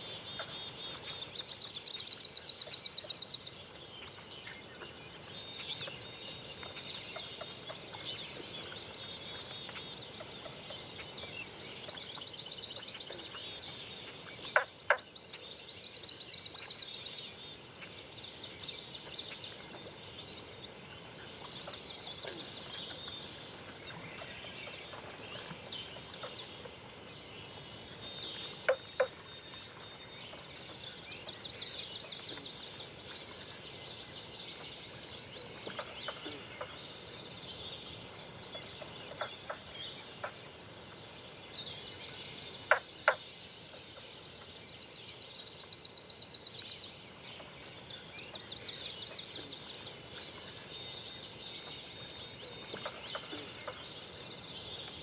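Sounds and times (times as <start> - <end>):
birds chirping: 2.6 - 55.0.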